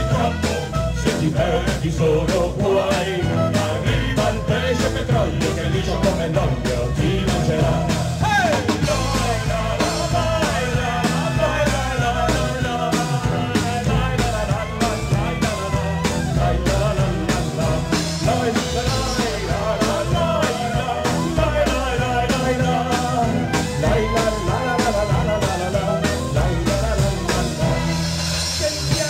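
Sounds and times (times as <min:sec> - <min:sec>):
drum kit beat: 0:00.0 - 0:29.0.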